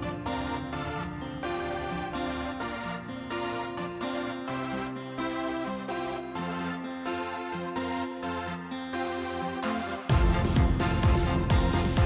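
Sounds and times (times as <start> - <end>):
electronic instrumental music: 0.0 - 12.0.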